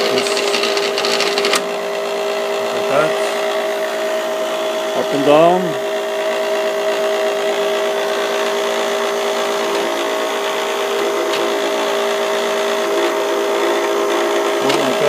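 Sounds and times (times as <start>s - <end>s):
milling machine motor whining: 0.0s - 15.0s.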